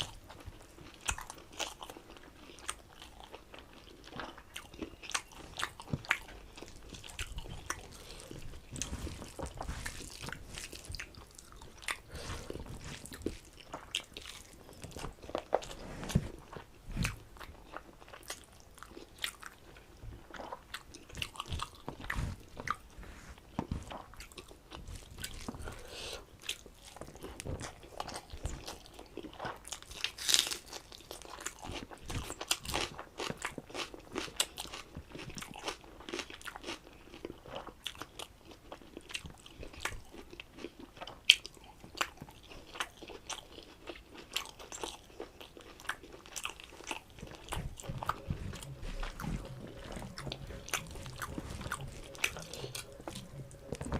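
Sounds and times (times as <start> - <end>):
chewing and crunching food: 0.0 - 53.9.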